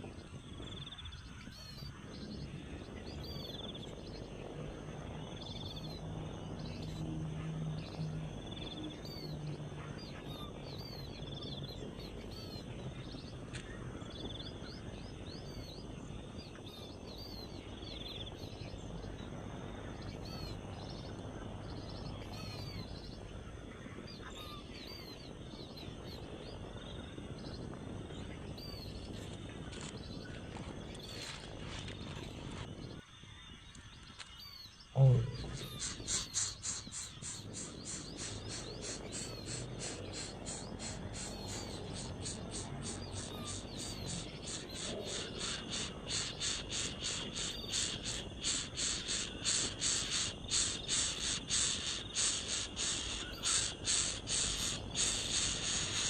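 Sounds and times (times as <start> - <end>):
faint low hum: 0.0 - 46.5
background hiss: 0.0 - 56.0
birds chirping: 0.0 - 56.0.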